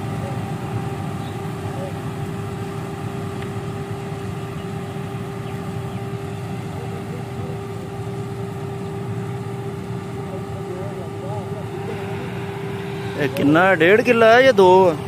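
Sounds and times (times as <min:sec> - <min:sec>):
combine harvester droning: 0:00.0 - 0:15.0
constant machine whine: 0:00.0 - 0:15.0.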